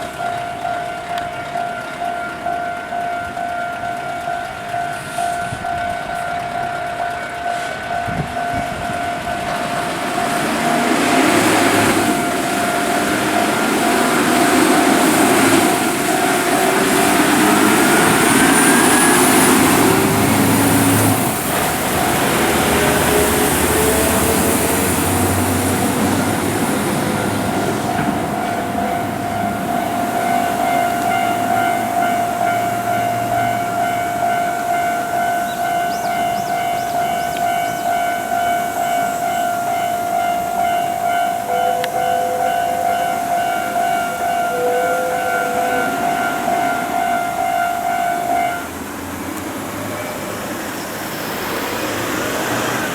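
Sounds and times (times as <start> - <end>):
heavy diesel truck engines: 0.0 - 52.9
pulsing crossing warning alarm: 0.0 - 52.9.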